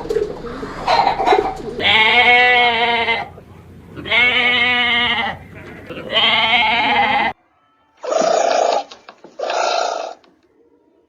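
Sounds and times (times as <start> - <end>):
lower animal calls: 0.0 - 7.3, 8.0 - 10.4
farm animal bleating: 0.0 - 10.3.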